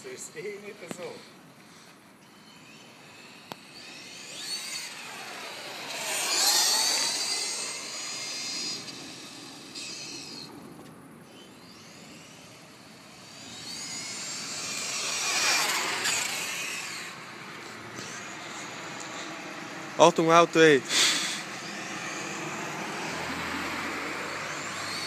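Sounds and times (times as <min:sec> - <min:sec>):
toy truck electric motor whining: 0:01.8 - 0:10.5, 0:11.3 - 0:19.8, 0:20.9 - 0:25.0.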